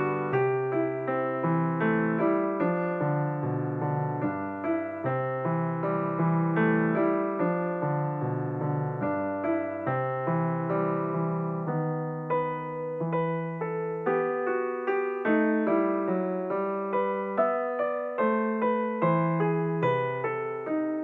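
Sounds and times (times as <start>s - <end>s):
gentle piano melody with chords: 0.0s - 21.0s.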